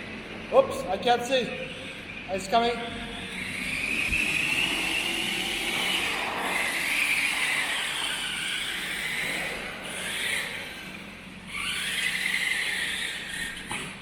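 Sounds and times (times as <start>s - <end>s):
rc car electric motor whine: 1.6s - 14.0s.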